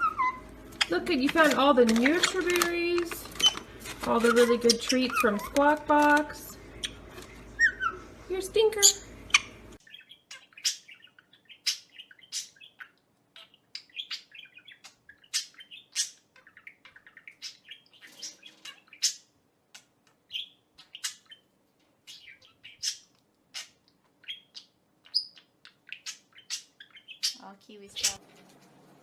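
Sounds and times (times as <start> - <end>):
parrot chirping: 0.0 - 28.2.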